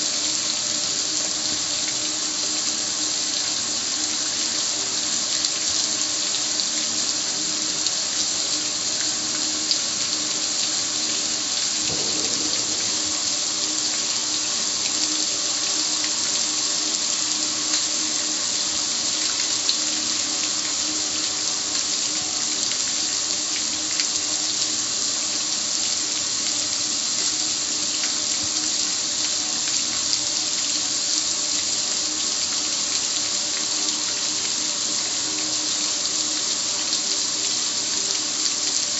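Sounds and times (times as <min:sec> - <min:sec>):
hose spraying water on metal: 0:00.0 - 0:38.9
water splashing and running off: 0:00.0 - 0:38.9.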